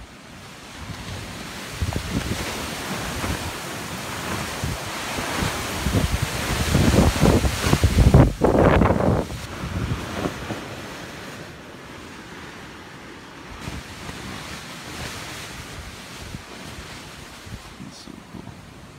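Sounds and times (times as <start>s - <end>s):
rushing wind: 0.0s - 18.9s
wind buffeting microphone: 0.0s - 18.9s.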